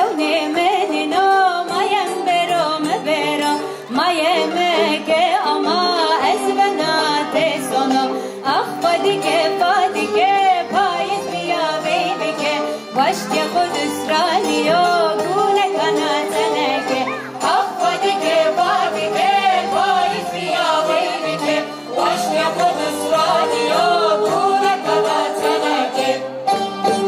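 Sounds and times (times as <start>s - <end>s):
folk orchestra of violins and lutes: 1.9s - 27.0s.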